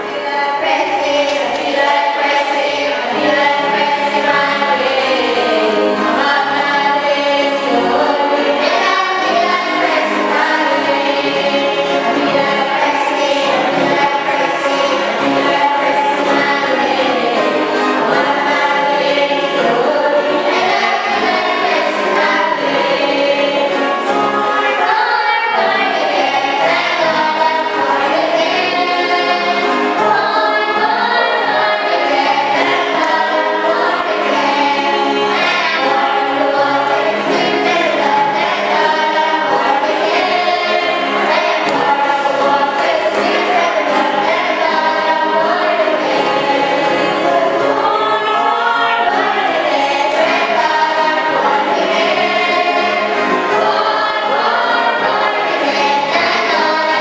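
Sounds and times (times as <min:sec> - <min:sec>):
choir singing held notes: 0:00.0 - 0:57.0.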